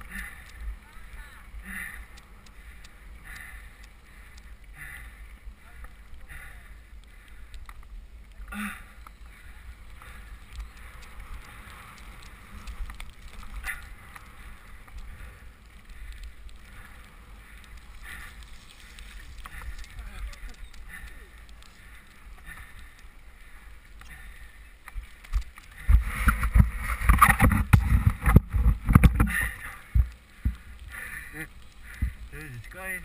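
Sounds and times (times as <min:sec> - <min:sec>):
bike rattling and tyre noise: 0:00.0 - 0:33.0
low wind rumble: 0:00.0 - 0:33.0.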